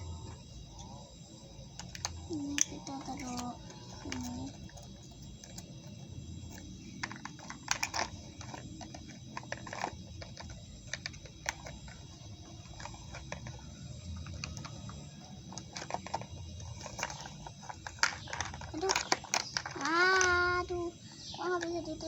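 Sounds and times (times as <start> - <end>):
plastic toy pieces clicking: 1.8 - 5.7, 6.5 - 13.6, 14.2 - 22.0.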